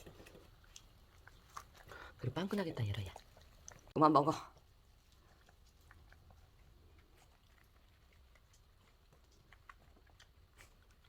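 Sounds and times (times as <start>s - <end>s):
dogs licking and chewing food: 0.0s - 11.0s.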